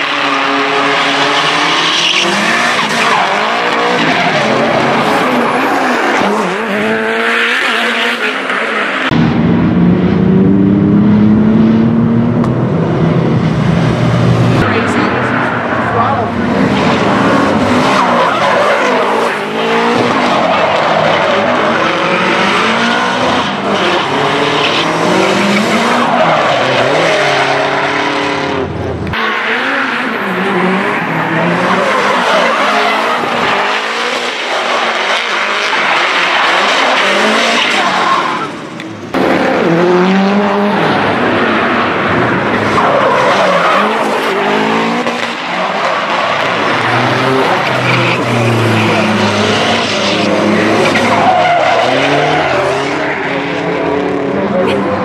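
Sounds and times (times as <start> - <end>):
car engines revving high: 0.0 - 55.0.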